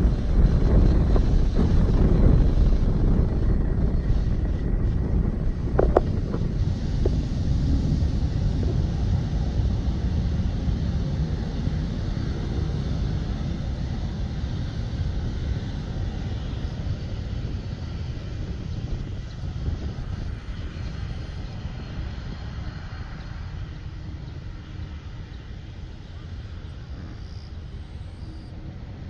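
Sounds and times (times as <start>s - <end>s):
jet engines rumbling: 0.0s - 29.0s.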